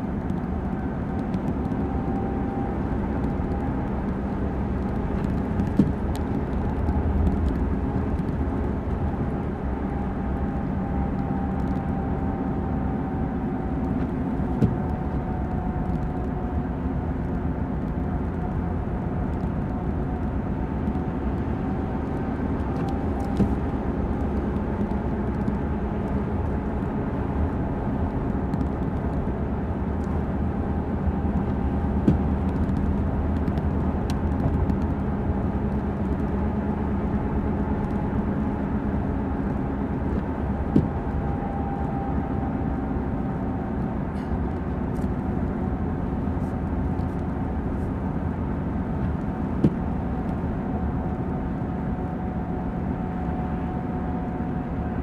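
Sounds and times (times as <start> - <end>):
engine and tyre drone: 0.0 - 55.0.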